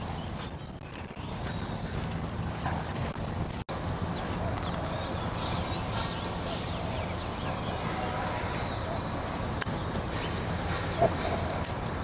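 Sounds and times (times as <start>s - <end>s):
bird chirping: 0.0s - 12.0s
steady low rumble: 0.0s - 12.0s.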